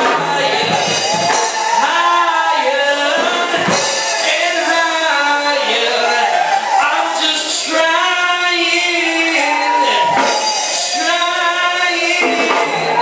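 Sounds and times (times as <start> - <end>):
person singing gospel: 0.0 - 13.0.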